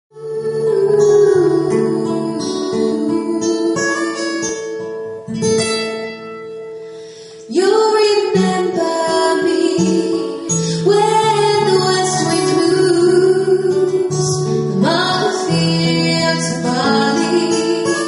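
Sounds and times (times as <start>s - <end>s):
woman singing: 0.1s - 5.0s, 7.4s - 18.0s
acoustic guitar picking and strumming: 0.2s - 18.0s.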